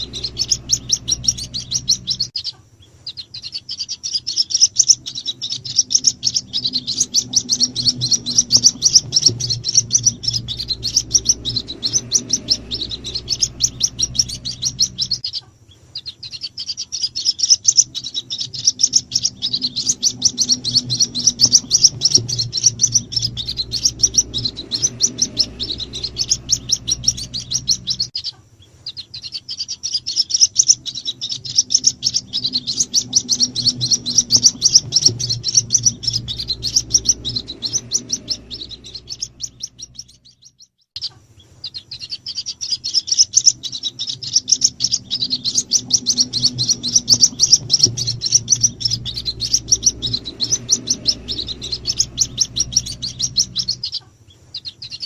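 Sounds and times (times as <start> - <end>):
bird chicks peeping: 0.0 - 55.0
faint low hum: 0.0 - 55.0.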